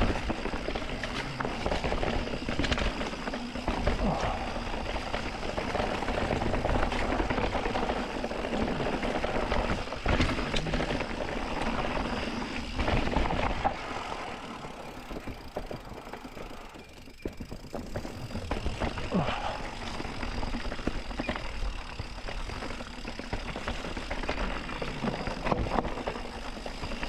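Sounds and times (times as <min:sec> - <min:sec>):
bike tyres rattling on dirt: 0:00.0 - 0:27.0.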